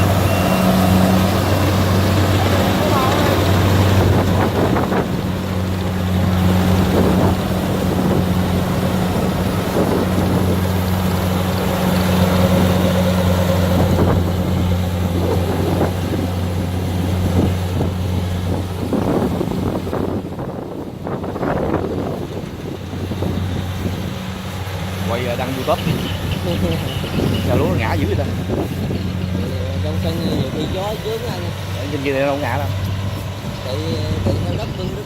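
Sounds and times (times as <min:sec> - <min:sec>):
combine harvester engine drone: 0:00.0 - 0:35.0
wind buffeting microphone: 0:00.0 - 0:35.0.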